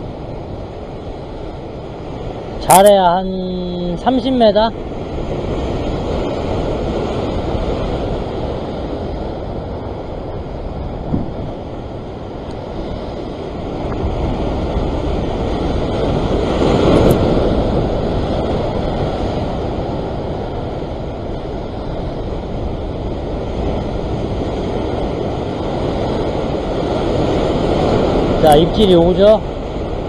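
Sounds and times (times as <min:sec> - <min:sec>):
ocean surf breaking on rocks: 0:00.0 - 0:30.0
wind on microphone: 0:00.0 - 0:30.0.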